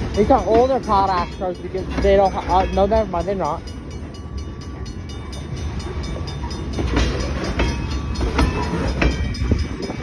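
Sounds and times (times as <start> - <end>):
freight train rumbling past: 0.0 - 10.0
wheels clicking over rail joints: 0.0 - 10.0.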